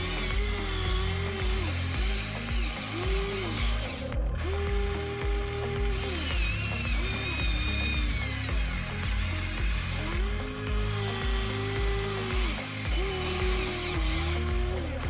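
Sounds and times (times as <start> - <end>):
background music with bass line: 0.0 - 15.0
electric motor whine: 0.0 - 15.0.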